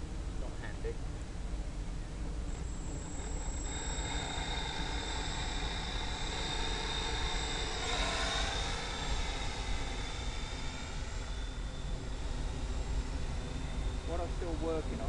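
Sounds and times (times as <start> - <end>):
model airplane motor whine: 2.4 - 15.0.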